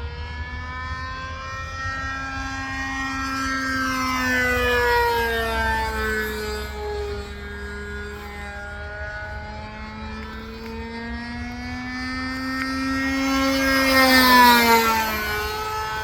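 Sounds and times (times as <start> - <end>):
model plane engine flyby: 0.0 - 16.0.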